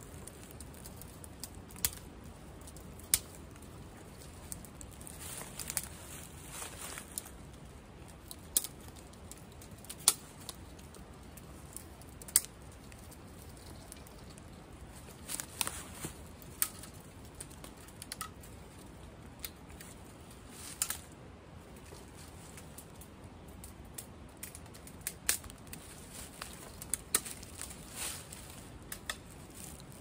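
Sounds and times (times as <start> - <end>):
dry twigs snapping: 0.0 - 21.2, 21.8 - 30.0.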